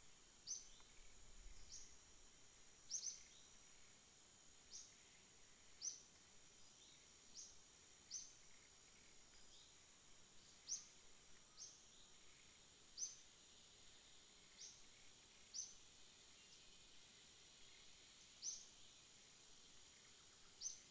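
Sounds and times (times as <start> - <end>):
small birds chirping: 0.0 - 2.0, 2.8 - 4.0, 4.6 - 20.9
insect drone: 0.0 - 20.9.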